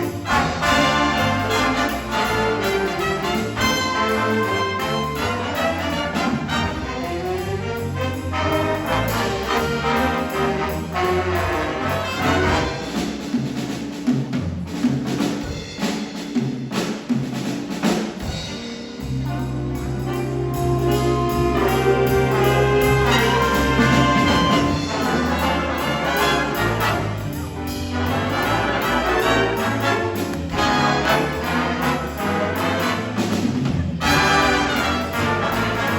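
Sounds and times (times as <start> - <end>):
brass section: 0.0 - 13.3, 18.3 - 35.9
jazz band playing: 0.0 - 35.9.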